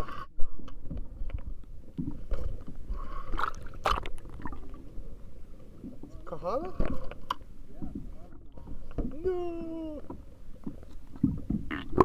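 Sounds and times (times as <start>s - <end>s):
water sloshing against kayak hull: 0.8s - 12.0s.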